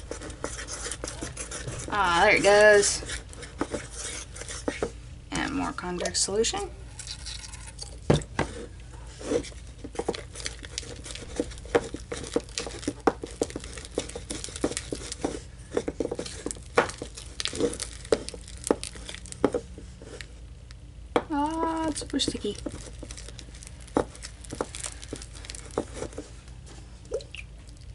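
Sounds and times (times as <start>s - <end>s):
slime squelching in a bowl: 0.0s - 5.0s, 6.8s - 27.9s.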